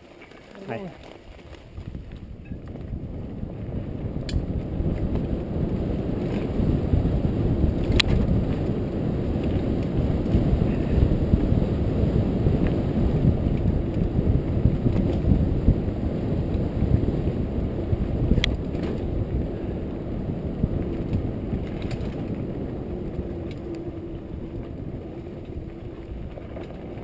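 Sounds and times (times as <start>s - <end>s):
bike tyres rumbling over trail: 0.0s - 27.0s
wind buffeting microphone: 0.6s - 27.0s.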